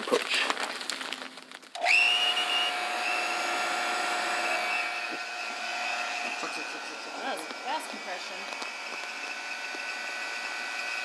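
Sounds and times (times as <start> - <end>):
vacuum pump whine: 1.7 - 11.0.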